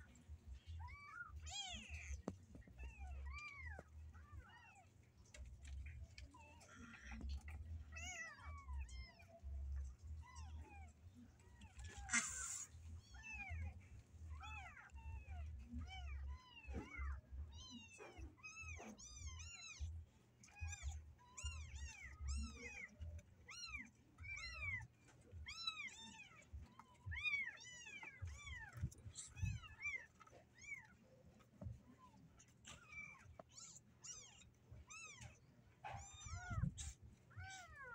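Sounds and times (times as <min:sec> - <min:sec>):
kittens meowing: 0:00.5 - 0:05.0, 0:05.6 - 0:37.9.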